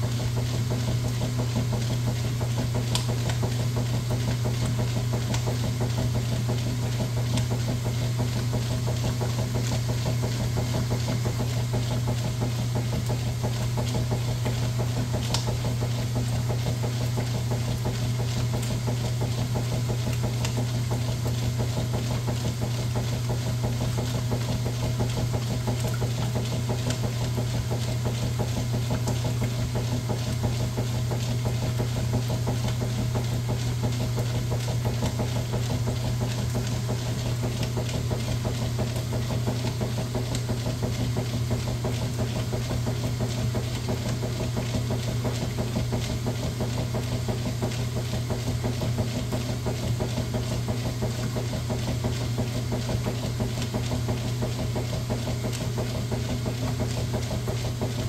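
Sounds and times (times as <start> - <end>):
washing machine motor hum: 0.0 - 58.0.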